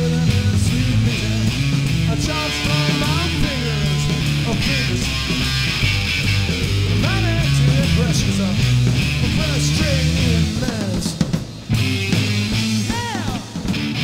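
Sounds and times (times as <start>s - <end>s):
bass guitar: 0.0s - 14.0s
drum kit: 0.0s - 14.0s
electric guitar with bent notes: 0.0s - 14.0s.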